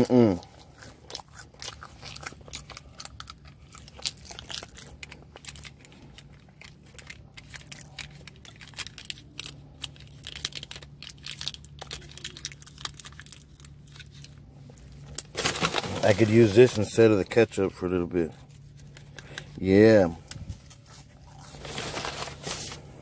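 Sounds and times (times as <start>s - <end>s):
paper bag crinkling: 1.6s - 18.9s, 19.6s - 23.0s.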